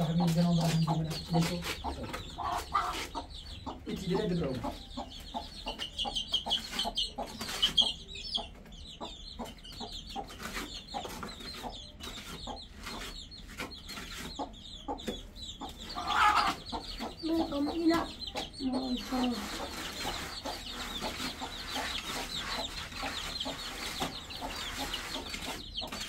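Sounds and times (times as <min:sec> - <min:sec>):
chickens clucking and chirping: 0:00.0 - 0:26.0.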